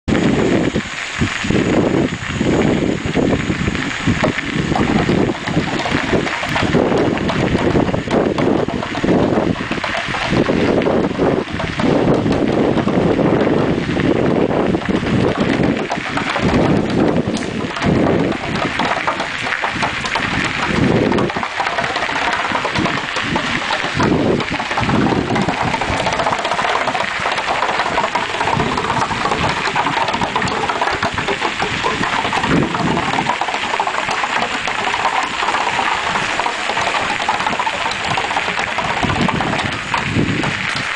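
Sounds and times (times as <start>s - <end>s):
stick clattering along picket fence: 4.2s - 13.5s, 14.2s - 40.9s.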